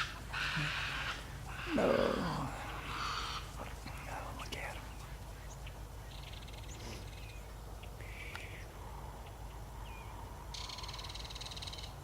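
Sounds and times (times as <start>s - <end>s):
bird chirp: 0.5s - 12.0s.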